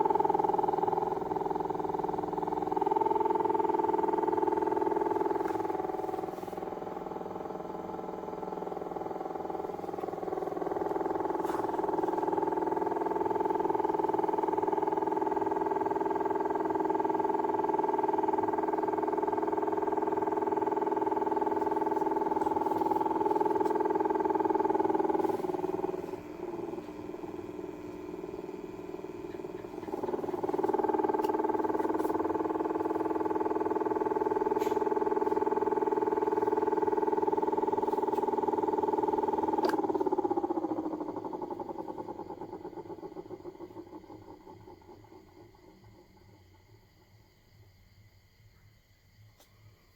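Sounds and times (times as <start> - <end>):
small fan motors whining: 0.0 - 49.9.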